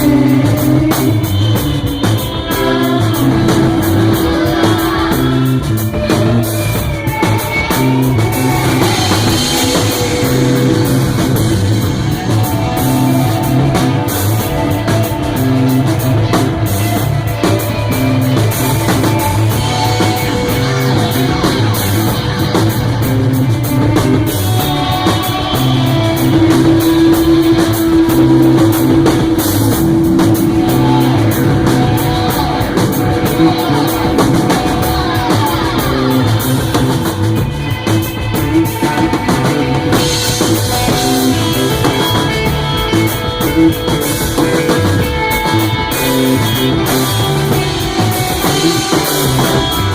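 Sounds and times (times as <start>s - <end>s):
bass guitar: 0.0s - 49.9s
drum kit: 0.0s - 49.9s
electric guitar: 0.0s - 49.9s.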